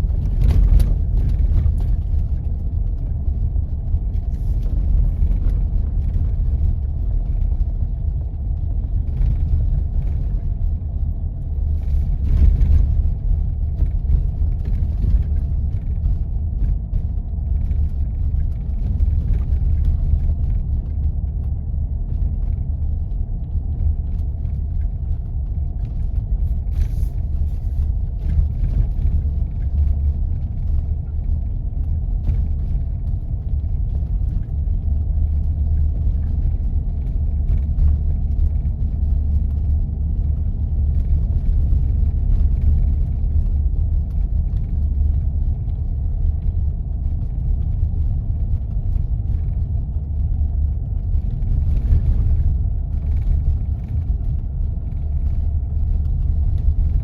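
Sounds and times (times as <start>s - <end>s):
vehicle driving on snow: 0.0s - 57.0s.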